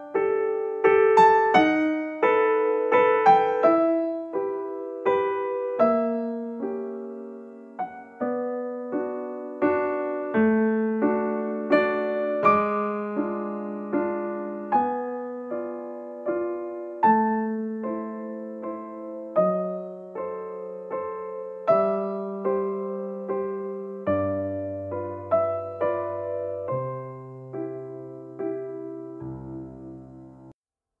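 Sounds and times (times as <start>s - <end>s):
piano music: 0.0s - 30.6s.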